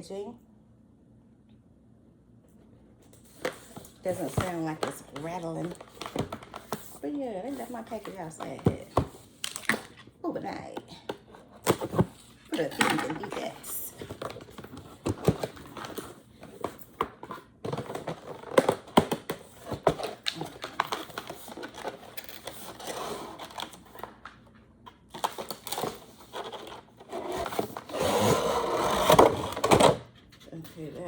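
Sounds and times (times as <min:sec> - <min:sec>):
scraping and rustling packaging: 0:03.1 - 0:31.0.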